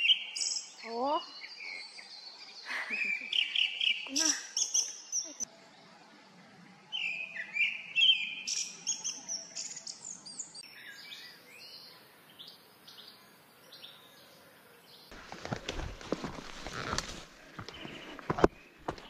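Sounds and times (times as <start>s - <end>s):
songbirds singing: 0.0s - 15.2s, 16.7s - 19.0s.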